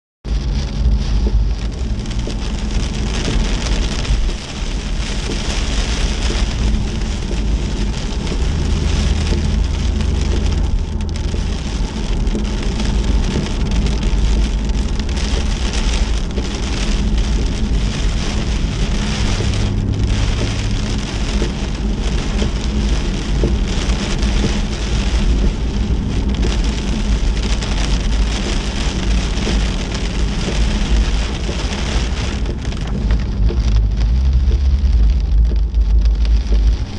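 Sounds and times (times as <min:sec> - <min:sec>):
vehicle rumble: 0:00.2 - 0:36.9
steady rain: 0:00.3 - 0:36.9.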